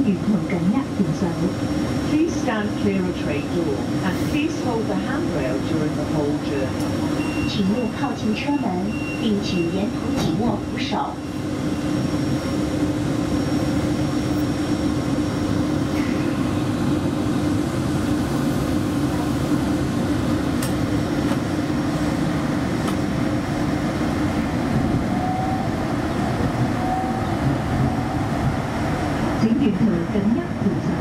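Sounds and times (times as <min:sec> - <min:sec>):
train running rumble and hum: 0:00.0 - 0:31.0.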